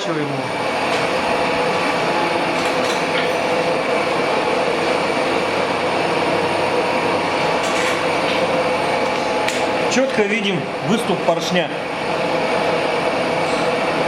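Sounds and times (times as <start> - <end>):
workshop machine drone: 0.0 - 14.0.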